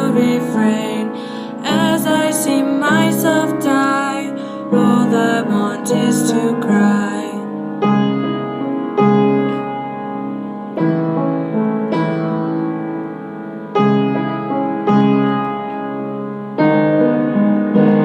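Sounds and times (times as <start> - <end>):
piano chords ringing: 0.0 - 18.0.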